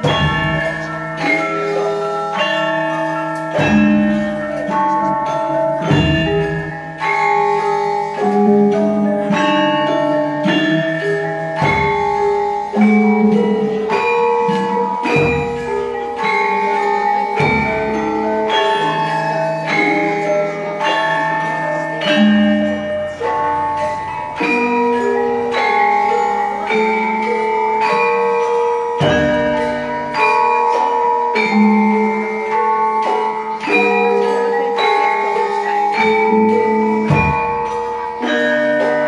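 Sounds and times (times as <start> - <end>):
metallophone melody: 0.0 - 39.0.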